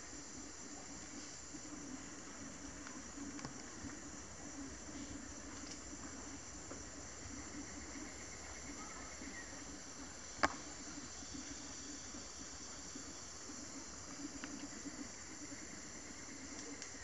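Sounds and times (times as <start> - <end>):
high-pitched insect hiss: 0.0 - 17.0.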